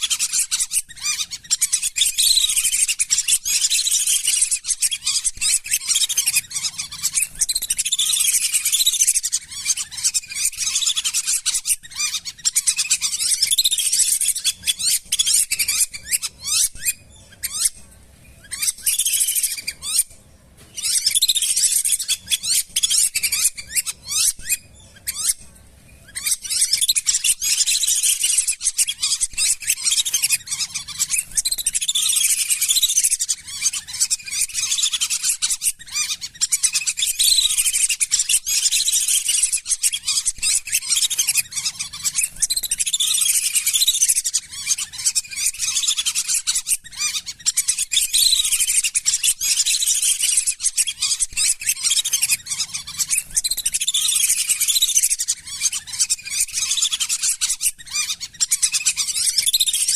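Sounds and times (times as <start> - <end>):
ducks whistling: 0.0 - 25.4, 26.0 - 59.9.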